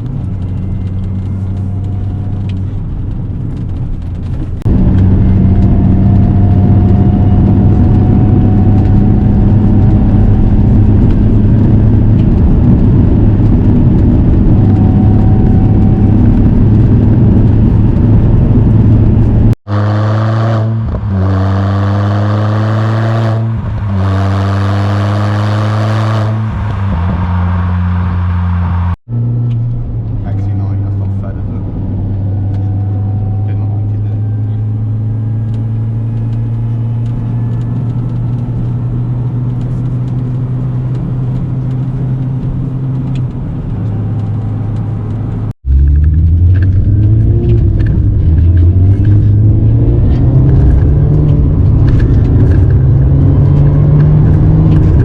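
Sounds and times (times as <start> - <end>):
gear changes: 0.0 - 20.2, 20.8 - 55.0
car engine accelerating: 0.0 - 55.0.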